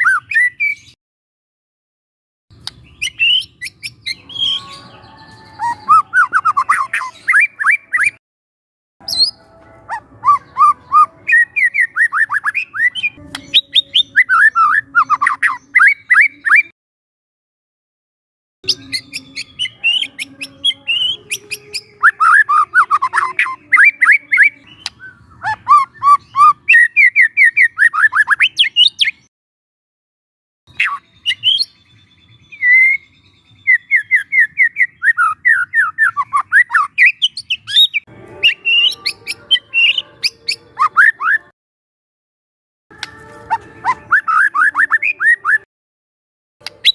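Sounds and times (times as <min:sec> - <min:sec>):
bird singing whistled notes: 0:00.0 - 0:01.0, 0:02.6 - 0:08.2, 0:09.0 - 0:16.7, 0:18.7 - 0:29.2, 0:30.7 - 0:41.5, 0:43.0 - 0:45.7, 0:46.6 - 0:46.9.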